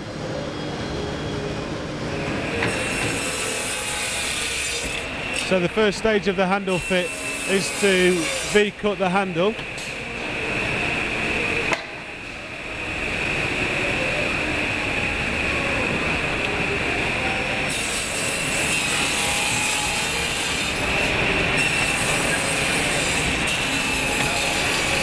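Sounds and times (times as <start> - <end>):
circular saw whining: 2.2 - 25.0.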